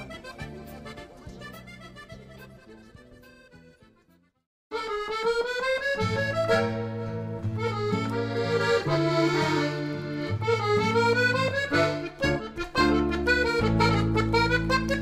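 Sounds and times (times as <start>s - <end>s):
accordion melody with bass: 0.0s - 15.0s.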